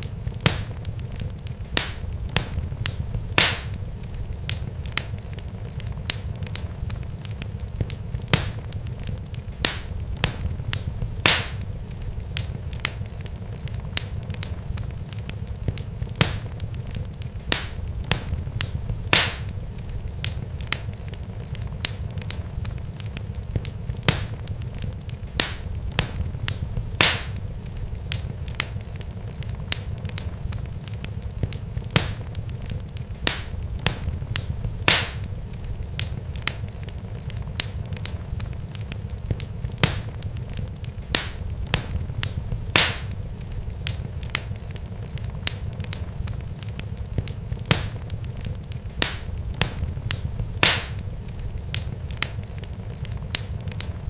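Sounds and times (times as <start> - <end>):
sharp pops and crackles: 0.0 - 54.0
steady low rumble: 0.0 - 54.0.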